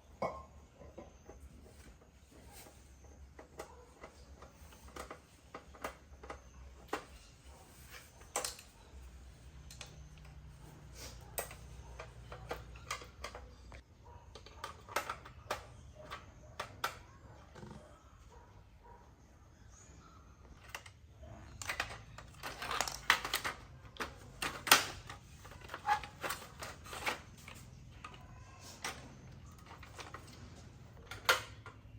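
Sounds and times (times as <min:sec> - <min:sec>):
tools and parts handled: 0:00.9 - 0:17.0, 0:20.5 - 0:31.9.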